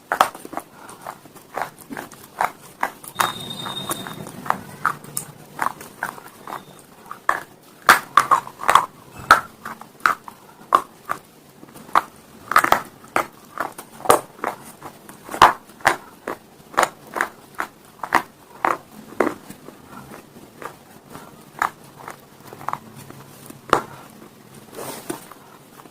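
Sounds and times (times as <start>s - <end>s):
chewing hard stone pieces: 0.0s - 24.2s.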